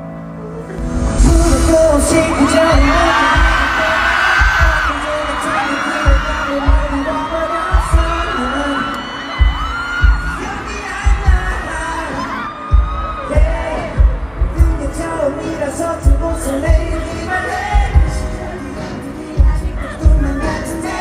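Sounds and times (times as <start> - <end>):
live pop ballad singing: 0.5 - 21.0.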